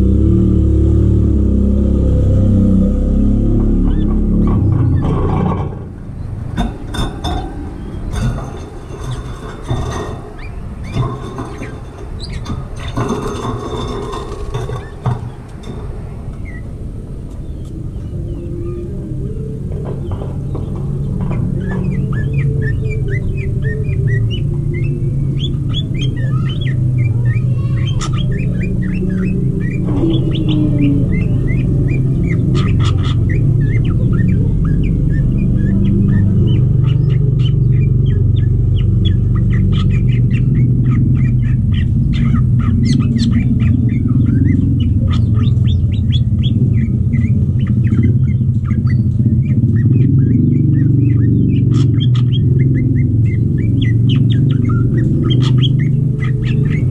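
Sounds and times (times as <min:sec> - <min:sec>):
birds chirping rapidly: 0:00.0 - 0:56.9
steady low hum: 0:00.0 - 0:56.9.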